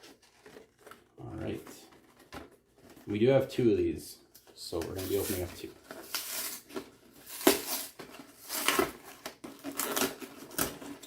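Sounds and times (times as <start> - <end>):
packaging rustling and scraping: 0.0 - 3.4, 4.4 - 11.0.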